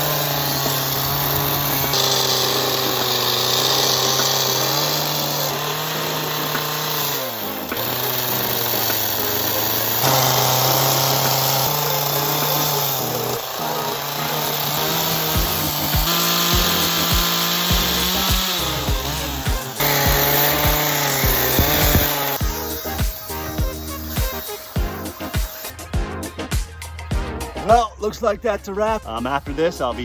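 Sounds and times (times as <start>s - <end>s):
chainsaw carving wood: 0.0s - 25.8s.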